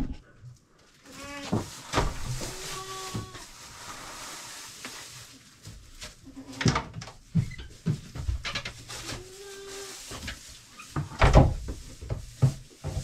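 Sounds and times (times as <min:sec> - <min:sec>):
hay rustling: 0:00.9 - 0:13.0.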